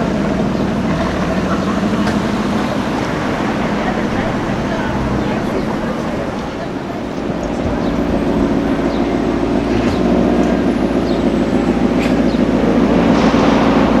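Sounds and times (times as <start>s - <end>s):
car engine and exhaust running: 0.0s - 14.0s.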